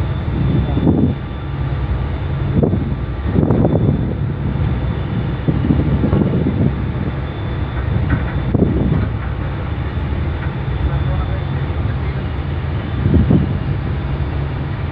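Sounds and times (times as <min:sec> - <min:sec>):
ship engine rumble: 0:00.0 - 0:14.9
wind gusting on microphone: 0:00.0 - 0:14.9.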